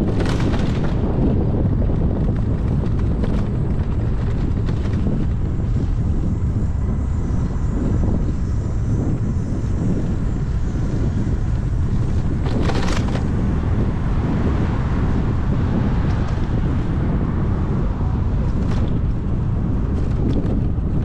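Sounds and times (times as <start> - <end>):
traffic noise: 0.0 - 21.0
wind buffeting microphone: 0.0 - 21.0.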